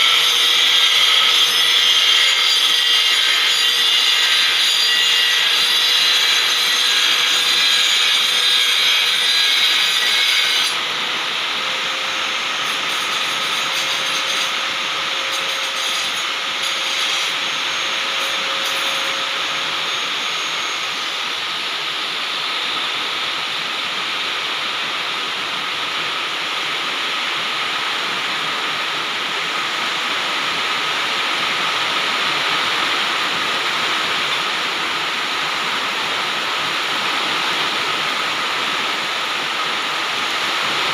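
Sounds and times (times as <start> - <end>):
heavy rain pouring: 5.9 - 40.9.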